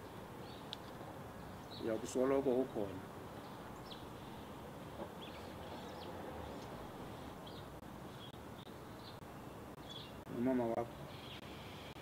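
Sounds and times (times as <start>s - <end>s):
birds chirping: 0.0s - 12.0s
faint background hiss: 0.0s - 12.0s.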